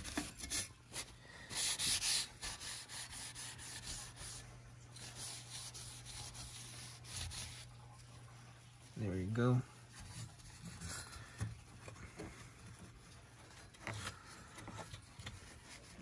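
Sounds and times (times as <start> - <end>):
paper towel scrubbing metal: 0.0 - 16.0.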